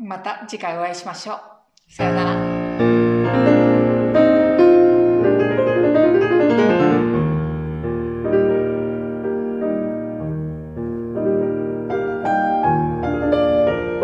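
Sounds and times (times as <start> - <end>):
solo piano: 1.9 - 14.0.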